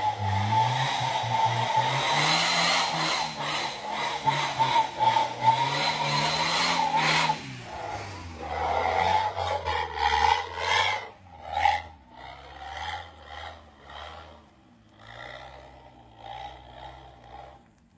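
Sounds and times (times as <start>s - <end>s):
pickup engine revving: 0.0s - 17.6s.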